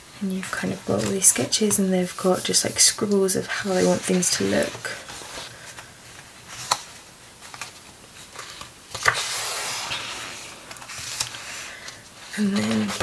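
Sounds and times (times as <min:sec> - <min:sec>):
page turning rustle: 0:00.4 - 0:13.0.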